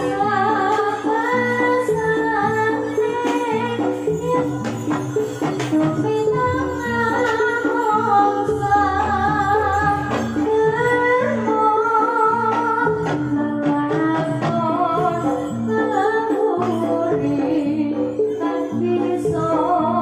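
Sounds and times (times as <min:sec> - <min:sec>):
gamelan ensemble music: 0:00.0 - 0:20.0
person singing wavering melody: 0:00.0 - 0:20.0.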